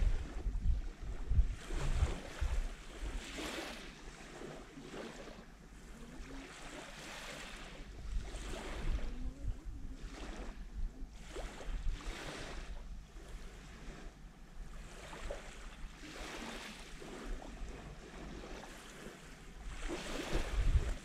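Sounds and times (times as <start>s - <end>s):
waves lapping on sandy shore: 0.0s - 21.0s
wind rumble on microphone: 0.0s - 21.0s.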